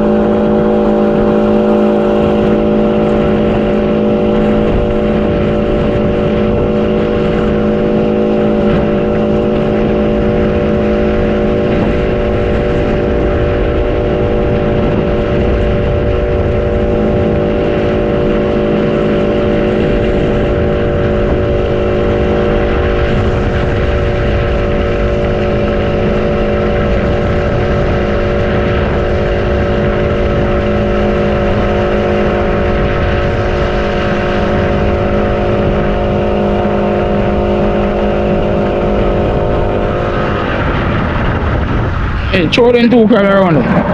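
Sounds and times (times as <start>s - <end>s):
motor running steadily: 0.0s - 43.9s
wind rumbling on microphone: 0.0s - 43.9s.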